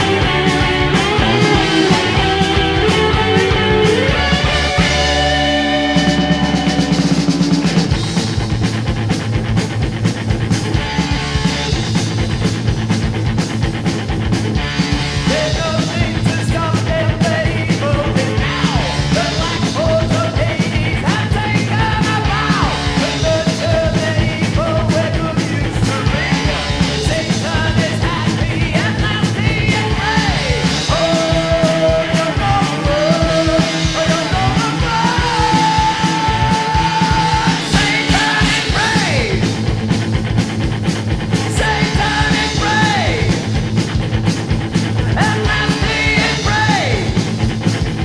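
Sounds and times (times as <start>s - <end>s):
heavy metal song: 0.0s - 48.0s
wavering melodic guitar line: 0.0s - 48.0s.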